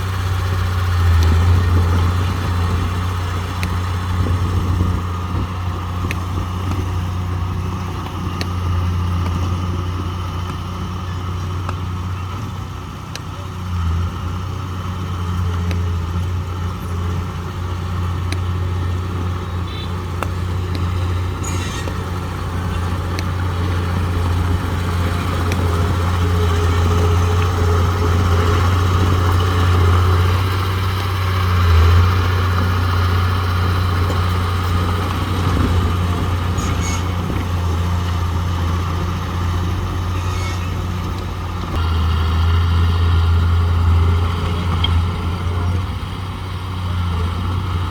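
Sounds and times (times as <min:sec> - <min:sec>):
heavy diesel engine droning: 0:00.0 - 0:47.9.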